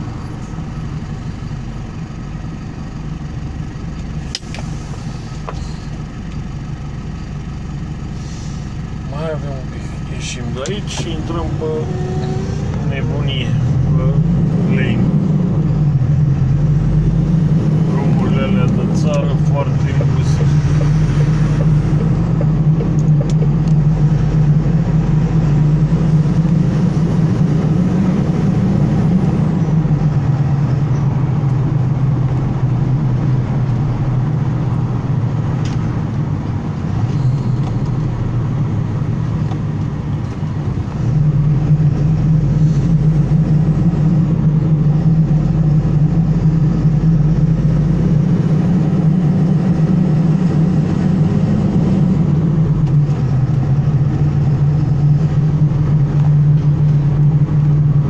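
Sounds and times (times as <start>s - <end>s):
road noise: 0.0s - 58.0s
truck engine: 0.0s - 58.0s.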